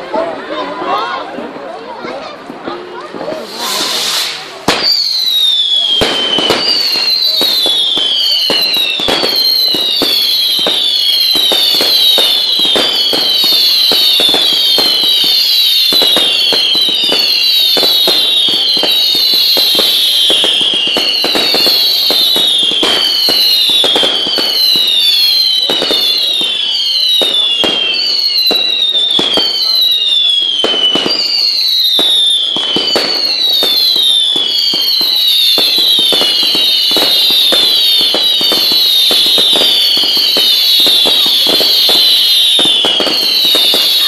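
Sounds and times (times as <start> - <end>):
firework bangs: 2.4 - 44.0
firework whistles: 3.2 - 44.0.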